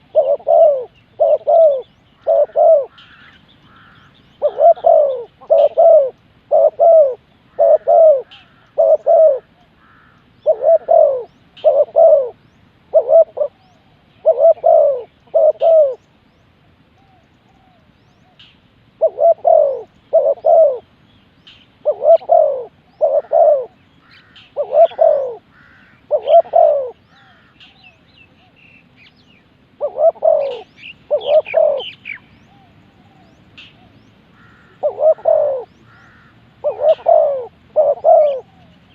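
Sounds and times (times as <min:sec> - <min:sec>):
dove cooing: 0:00.0 - 0:16.1, 0:16.7 - 0:21.0, 0:21.8 - 0:29.0, 0:29.7 - 0:38.9
small birds chirping: 0:00.0 - 0:38.9.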